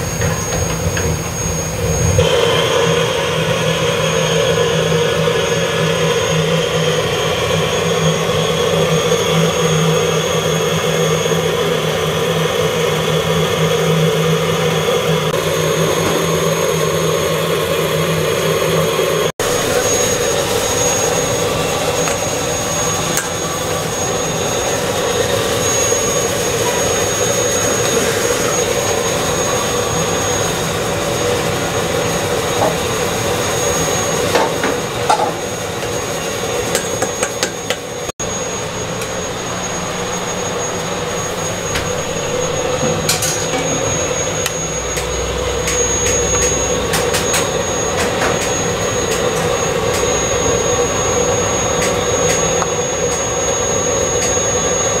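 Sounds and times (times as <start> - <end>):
gas burner rushing: 0.0 - 55.0.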